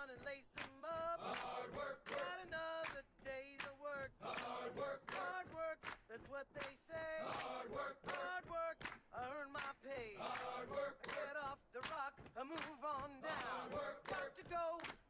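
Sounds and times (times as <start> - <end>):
man singing over a beat: 0.0 - 15.0.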